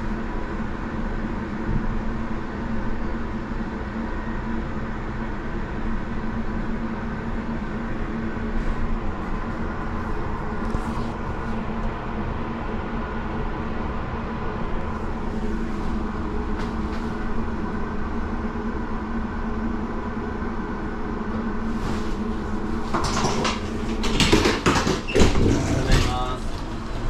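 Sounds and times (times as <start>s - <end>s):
mechanical hum with low rumble: 0.0s - 27.0s.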